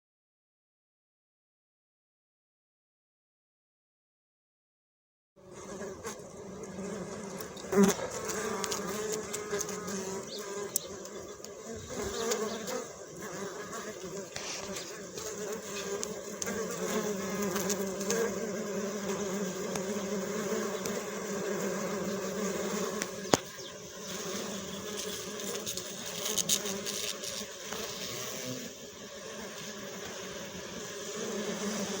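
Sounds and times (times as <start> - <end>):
bees buzzing: 5.4 - 32.0.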